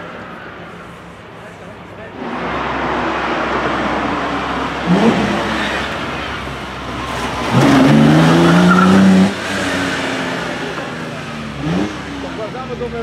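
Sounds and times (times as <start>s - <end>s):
car engine revving: 2.1s - 13.0s.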